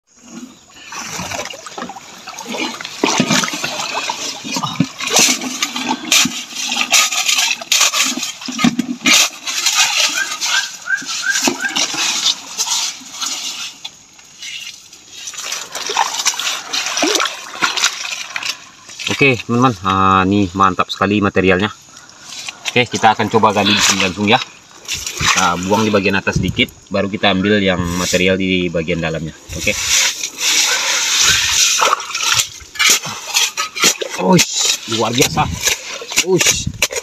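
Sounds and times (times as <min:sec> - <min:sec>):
water rushing and splashing: 0:00.1 - 0:19.6, 0:21.9 - 0:27.0, 0:29.4 - 0:37.0
soil scooped by hand: 0:00.1 - 0:19.9, 0:22.0 - 0:37.0.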